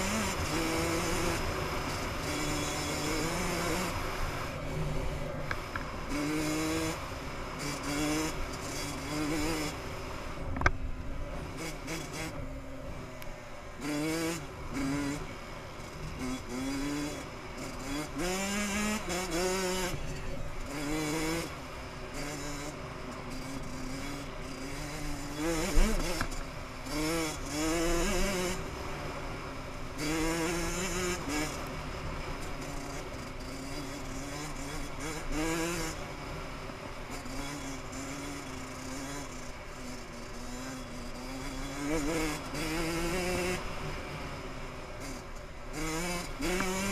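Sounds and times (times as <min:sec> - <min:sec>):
dirt bike engine revving: 0:00.0 - 0:10.4, 0:11.2 - 0:46.9.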